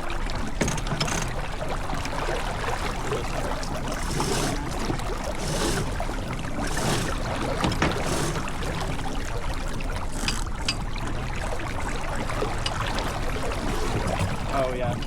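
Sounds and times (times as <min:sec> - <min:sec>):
rush of water: 0:00.0 - 0:15.0
wind: 0:00.0 - 0:15.0.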